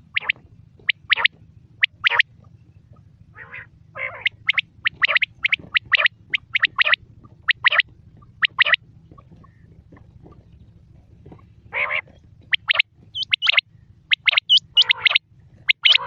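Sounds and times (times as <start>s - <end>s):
low rasping bird notes: 0.0s - 16.0s
quail calling: 0.0s - 16.0s.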